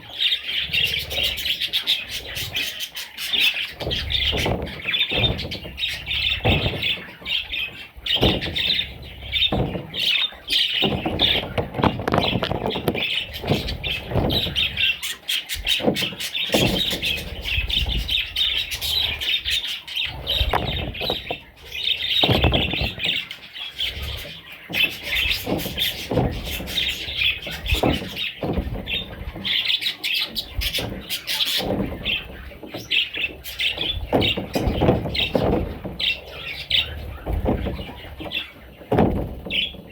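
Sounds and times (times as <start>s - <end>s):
budgerigars chattering: 0.0s - 39.9s
knocks and bumps: 0.0s - 39.9s.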